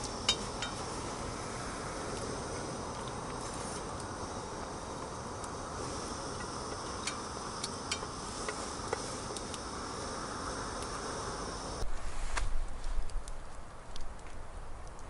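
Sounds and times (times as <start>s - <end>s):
gas stove hissing: 0.0s - 13.1s
campfire crackles: 0.0s - 15.0s.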